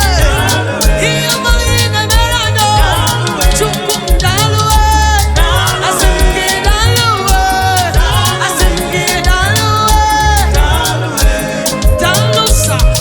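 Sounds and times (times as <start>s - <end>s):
live band playing: 0.0s - 13.0s
voices singing: 0.0s - 13.0s.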